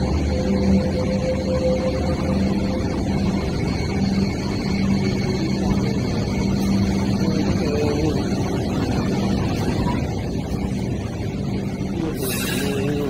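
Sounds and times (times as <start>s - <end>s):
faint high steady tones: 0.0s - 13.0s
light rail vehicle rumbling: 0.0s - 13.0s
steady low hum: 0.0s - 13.0s.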